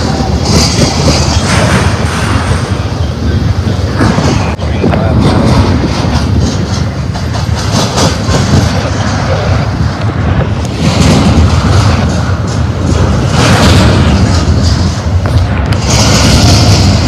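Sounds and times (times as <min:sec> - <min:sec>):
freight train rolling past: 0:00.0 - 0:17.0
wheels clicking and knocking: 0:00.0 - 0:17.0.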